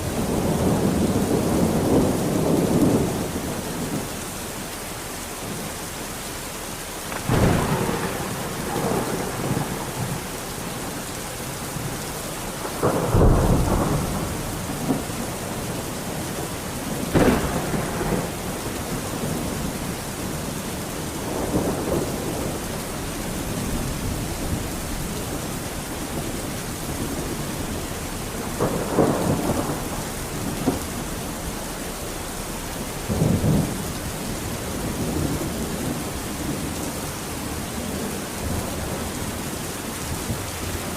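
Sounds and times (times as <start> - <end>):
thunder rumbling and cracking: 0.0 - 4.2, 7.0 - 40.9
steady rain falling: 0.0 - 40.9.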